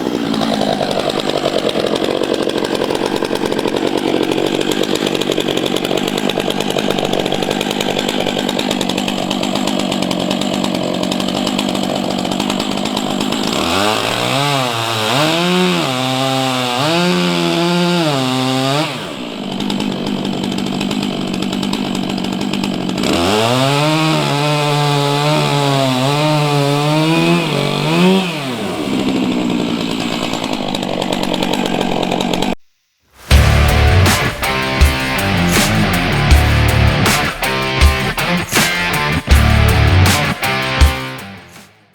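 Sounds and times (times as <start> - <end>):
chainsaw running at high throttle: 0.0 - 32.6, 33.2 - 41.7.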